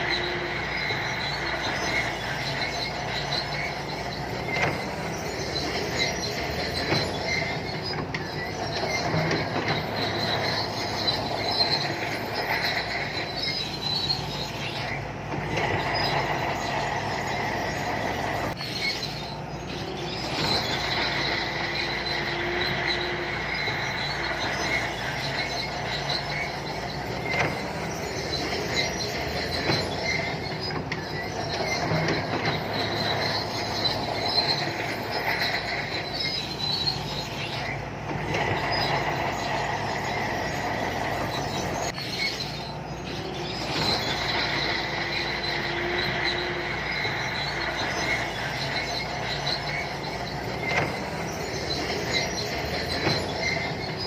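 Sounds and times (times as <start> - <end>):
diesel engine droning: 0.0 - 54.0
steel tracks squealing: 0.0 - 54.0.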